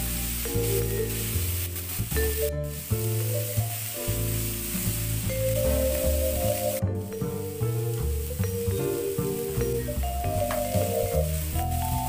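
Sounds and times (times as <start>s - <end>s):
background music with bass line: 0.0s - 12.0s
vegetables sizzling in a frying pan: 0.0s - 12.0s.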